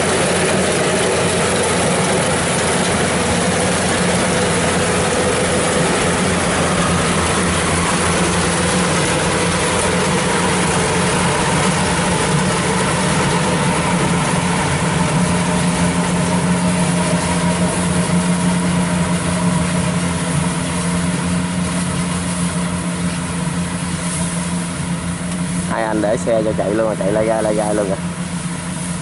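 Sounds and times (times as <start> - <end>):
harvester clatter: 0.0 - 27.9
diesel engine running: 0.0 - 29.0.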